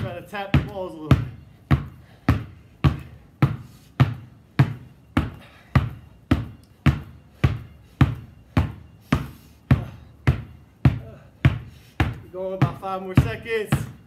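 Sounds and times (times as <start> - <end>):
basketballs bouncing on concrete: 0.0 - 14.0.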